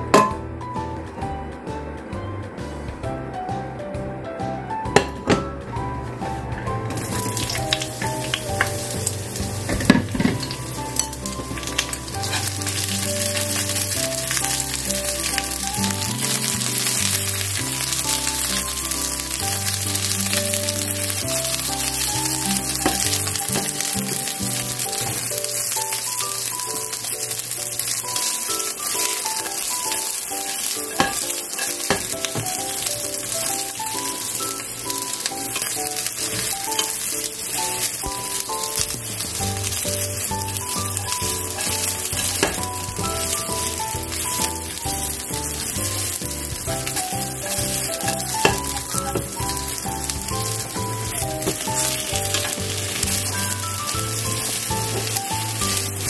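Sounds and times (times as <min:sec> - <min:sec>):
backing tune: 0:00.0 - 0:56.0
peppers sizzling in a frying pan: 0:06.9 - 0:56.0.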